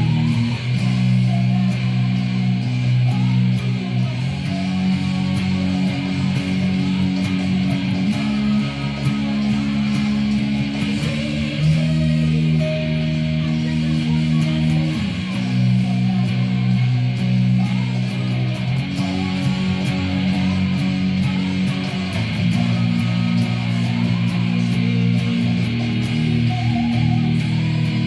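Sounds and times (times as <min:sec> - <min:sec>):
guitar and bass chords: 0:00.0 - 0:28.0.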